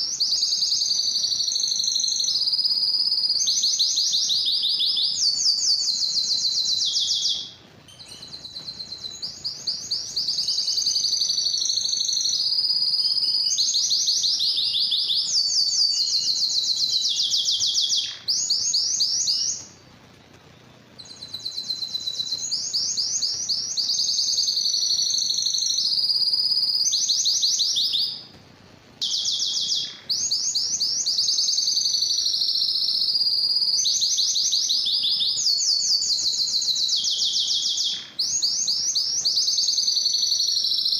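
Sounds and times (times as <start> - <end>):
canary singing trills: 0.0 - 28.4, 29.0 - 40.9.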